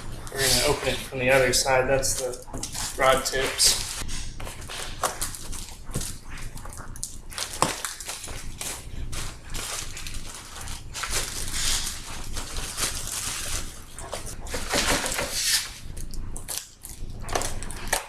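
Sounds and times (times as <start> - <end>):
packing material crinkling: 0.1 - 18.0.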